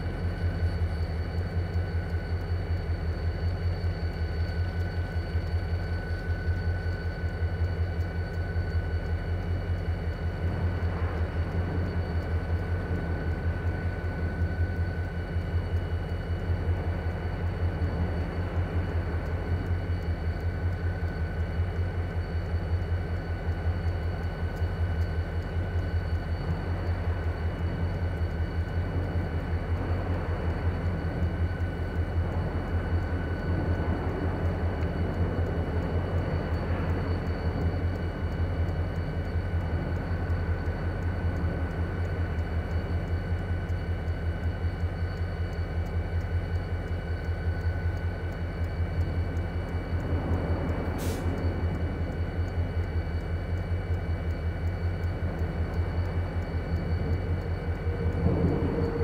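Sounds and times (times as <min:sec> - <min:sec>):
diesel locomotives idling: 0:00.0 - 0:59.0
faint high whine: 0:00.0 - 0:59.0.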